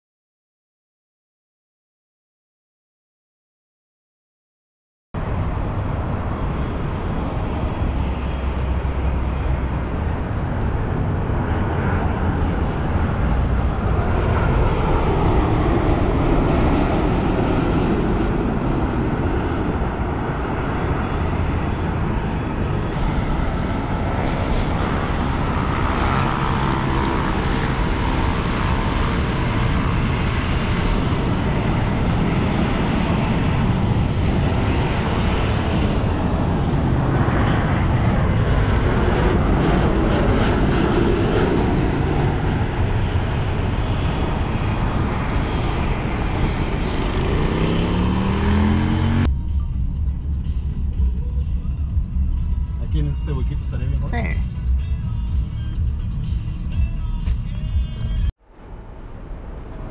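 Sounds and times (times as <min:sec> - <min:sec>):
jet engines running: 0:05.2 - 0:59.9.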